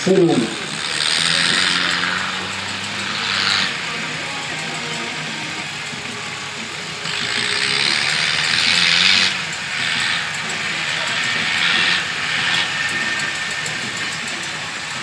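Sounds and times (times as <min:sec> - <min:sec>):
loud hiss: 0:00.0 - 0:15.0
tractor diesel engine running: 0:00.0 - 0:15.0.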